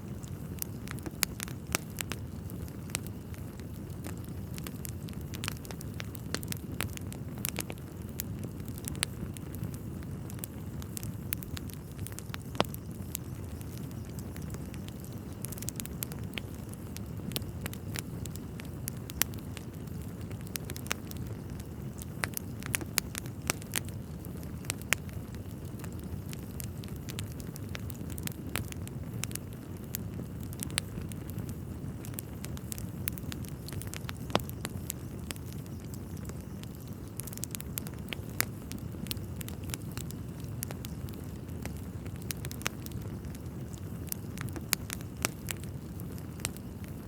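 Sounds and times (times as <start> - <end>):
fire flames rushing: 0.0 - 47.0
logs crackling and popping: 0.0 - 47.0.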